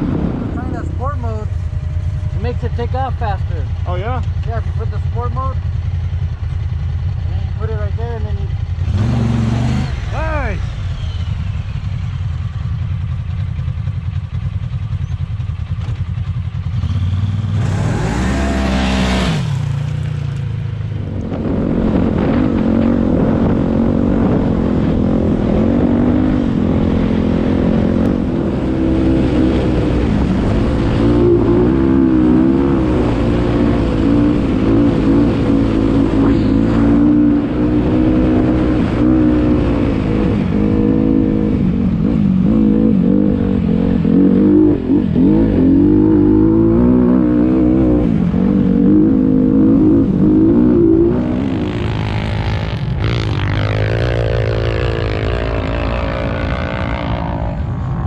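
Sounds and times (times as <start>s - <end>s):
dirt bike engine running: 0.0s - 58.0s
engine pitch sweeping down: 0.0s - 58.0s
low engine rumble: 0.0s - 58.0s.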